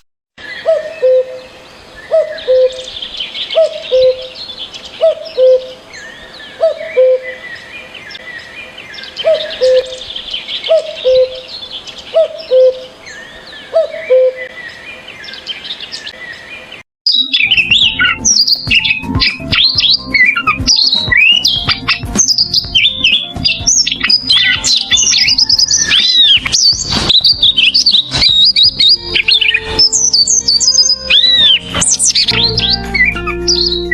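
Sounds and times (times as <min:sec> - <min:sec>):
bird chirps and trills: 0:00.4 - 0:33.9
birds chirping and squawking: 0:00.4 - 0:33.9.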